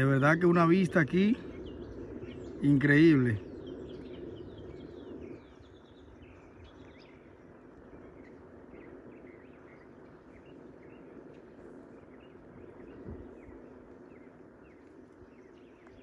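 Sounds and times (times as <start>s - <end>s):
faint birds chirping: 0.0s - 16.0s
low steady background noise: 0.0s - 16.0s.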